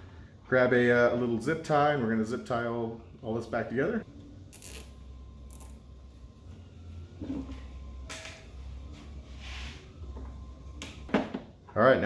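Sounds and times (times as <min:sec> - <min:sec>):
low steady hum: 0:00.0 - 0:11.7.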